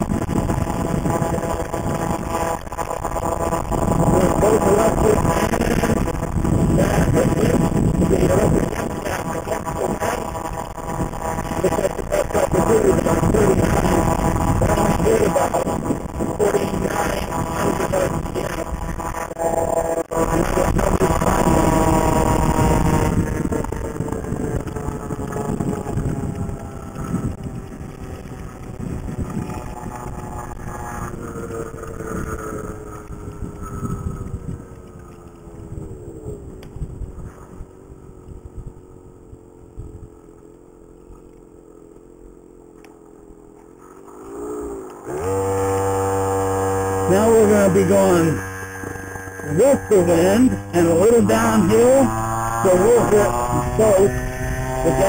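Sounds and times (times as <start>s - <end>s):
wind on microphone: 0.0s - 40.4s, 44.3s - 55.0s
scooter engine revving: 0.0s - 55.0s.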